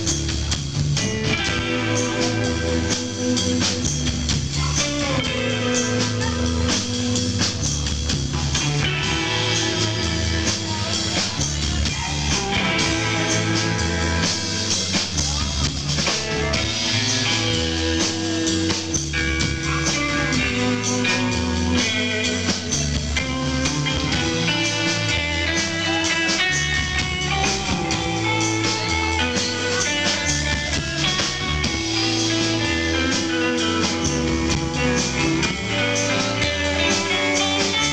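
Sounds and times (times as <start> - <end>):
bass line: 0.0 - 37.9
drum kit: 0.0 - 37.9
guitar lines: 0.0 - 37.9
rock band playing: 0.0 - 37.9.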